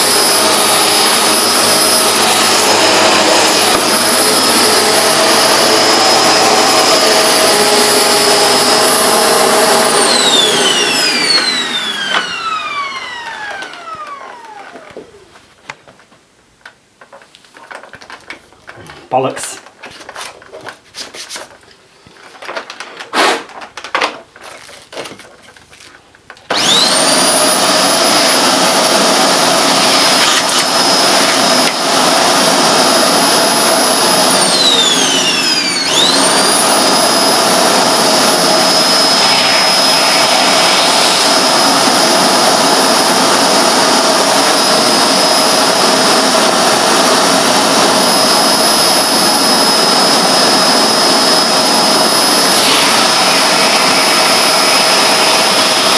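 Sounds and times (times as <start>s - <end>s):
vacuum cleaner motor whining: 0.0s - 15.6s, 26.5s - 55.9s.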